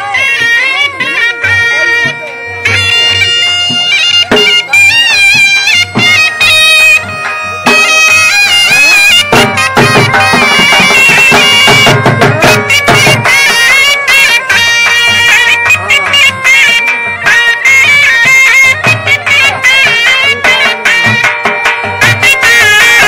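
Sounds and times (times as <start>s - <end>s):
drum strokes: 0.0s - 23.0s
reedy wind instrument melody: 0.0s - 23.0s.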